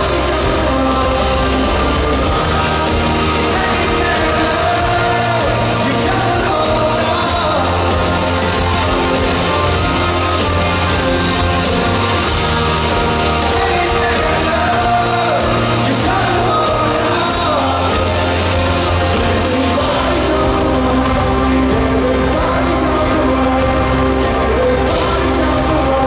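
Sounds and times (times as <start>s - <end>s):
live rock band playing: 0.0s - 26.0s
person singing: 0.0s - 26.0s.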